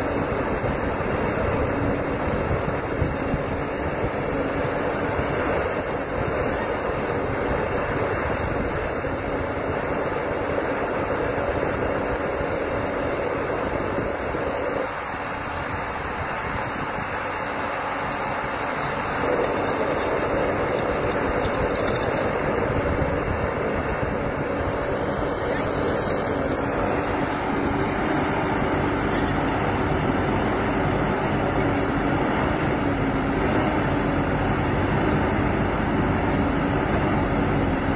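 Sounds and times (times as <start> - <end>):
backhoe diesel engine under load: 0.0 - 37.9.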